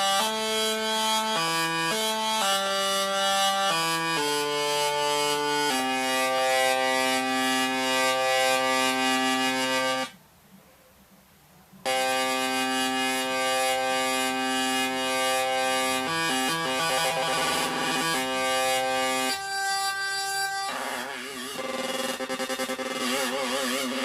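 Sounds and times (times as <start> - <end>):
buzzy synthesizer tone: 0.0 - 10.1, 11.9 - 24.0.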